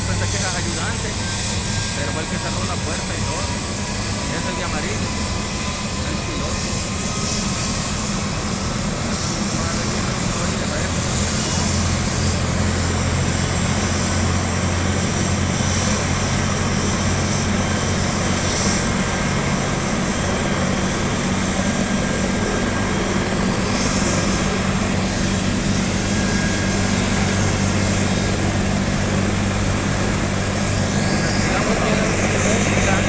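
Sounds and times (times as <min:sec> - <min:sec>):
helicopter rotor drone: 0:00.0 - 0:33.0
high whine: 0:00.0 - 0:33.0.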